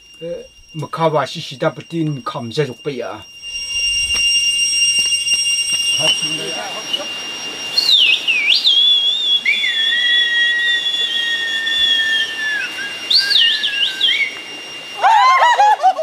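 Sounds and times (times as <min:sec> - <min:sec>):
hand whistling: 0:00.0 - 0:15.8.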